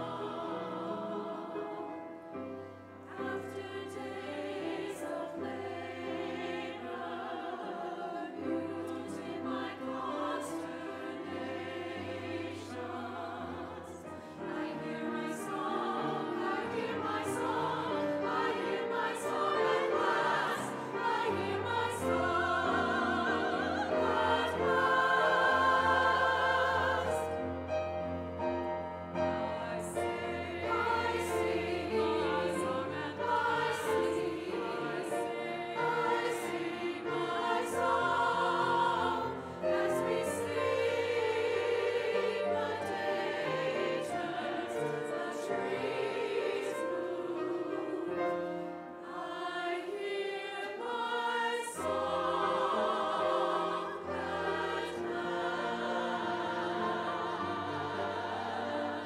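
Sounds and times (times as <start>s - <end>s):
piano accompaniment: 0.0s - 50.2s, 51.8s - 59.0s
women's choir singing: 0.0s - 59.0s.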